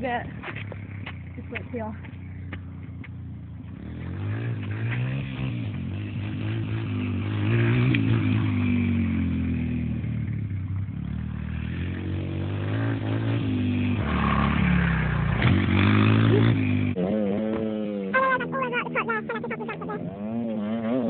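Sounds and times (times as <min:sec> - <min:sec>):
dirt bike engine revving: 0:03.6 - 0:21.0.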